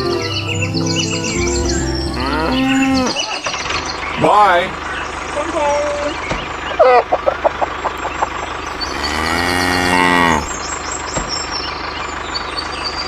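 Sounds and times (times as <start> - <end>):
motor running: 0.0 - 12.5
drawn-out pitched call: 0.0 - 13.0.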